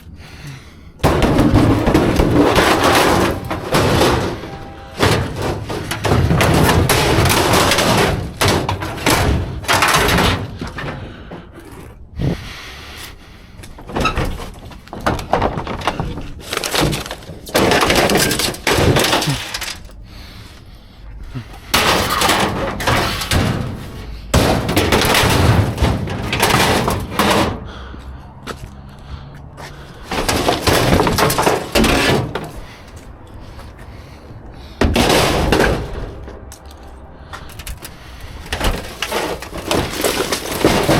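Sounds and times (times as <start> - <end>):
scrap crashing in a dumpster: 1.0 - 12.5, 13.6 - 20.5, 21.2 - 28.6, 29.6 - 40.9.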